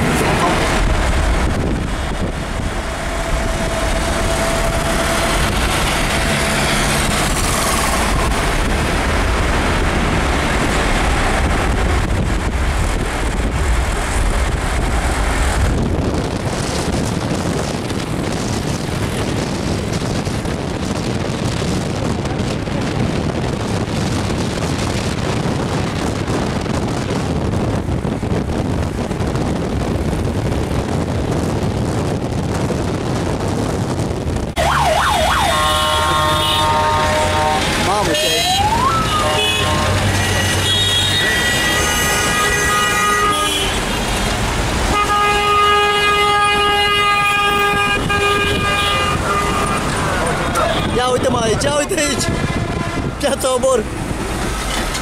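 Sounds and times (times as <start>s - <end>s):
car road noise: 0.0s - 55.0s
passing traffic: 0.0s - 55.0s
wind on microphone: 0.0s - 55.0s.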